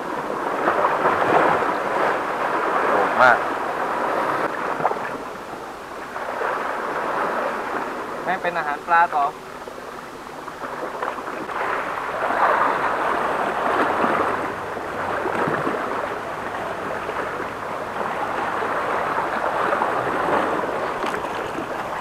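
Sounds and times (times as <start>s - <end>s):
sea water washing on rocks: 0.0s - 9.6s, 10.2s - 22.0s.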